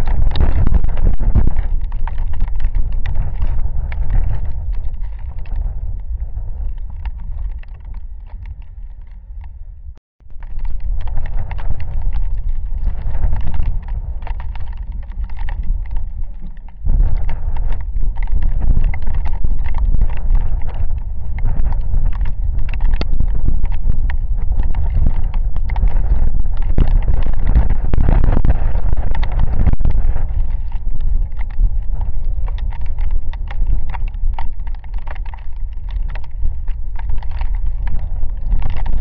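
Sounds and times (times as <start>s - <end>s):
raindrops pattering: 0.0s - 9.5s, 10.2s - 39.0s
wind buffeting microphone: 0.0s - 39.0s.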